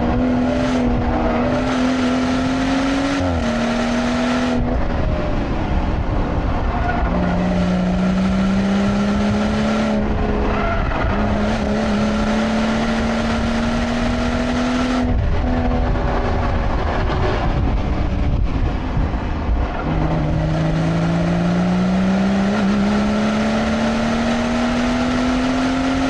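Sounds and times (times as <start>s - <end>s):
car engine revving: 0.0s - 26.0s
road and tyre noise: 0.0s - 26.0s.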